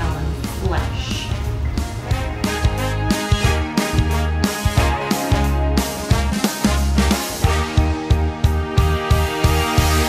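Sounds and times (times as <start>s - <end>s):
pop music with drum beat: 1.2s - 10.0s.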